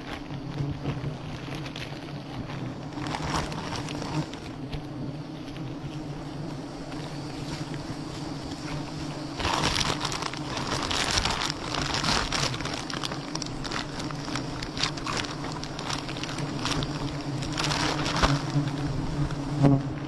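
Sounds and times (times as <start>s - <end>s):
crackling and rustling: 0.0s - 20.0s
honeybees buzzing: 0.0s - 20.0s.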